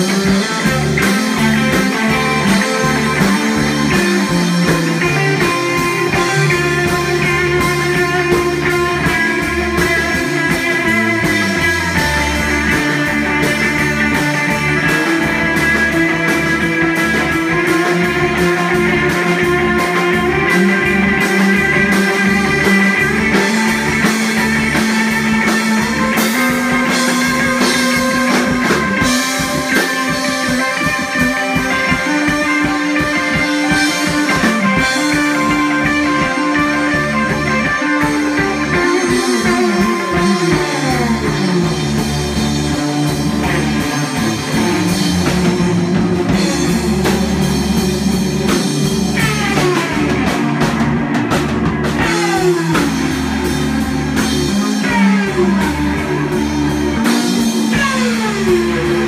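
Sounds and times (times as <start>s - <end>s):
bass line: 0.0s - 59.0s
drum kit beat: 0.0s - 59.0s
guitar: 0.0s - 59.0s.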